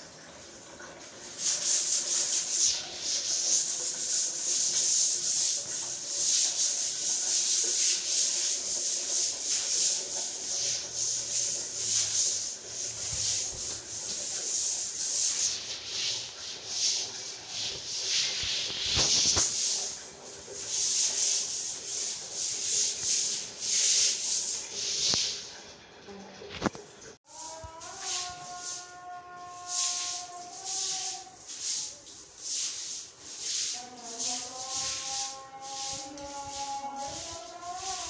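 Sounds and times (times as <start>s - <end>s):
broom sweeping wet tiled floor: 1.0s - 25.7s, 26.5s - 38.0s.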